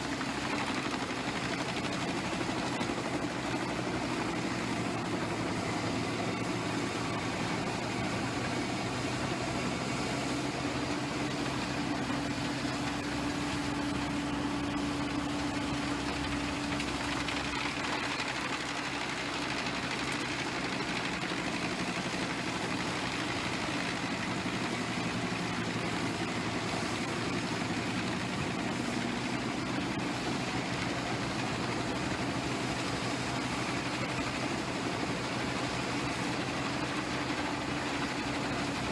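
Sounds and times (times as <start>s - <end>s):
wood chipper engine droning: 0.0s - 38.9s.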